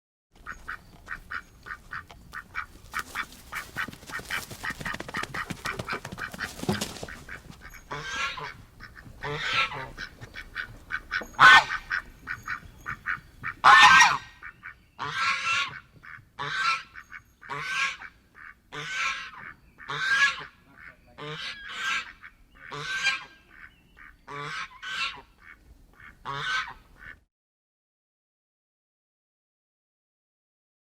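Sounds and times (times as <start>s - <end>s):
geese honking: 0.4s - 27.2s.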